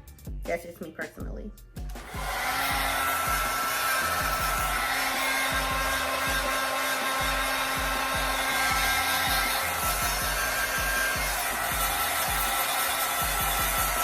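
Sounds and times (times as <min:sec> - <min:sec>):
music with heavy bass beat: 0:00.0 - 0:14.0
hair dryer blowing: 0:01.9 - 0:14.0.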